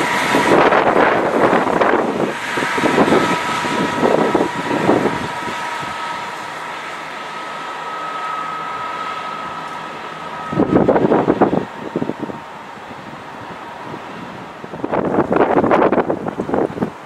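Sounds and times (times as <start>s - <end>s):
diesel train running with whine: 0.0s - 17.0s
wind buffeting microphone: 0.0s - 17.0s.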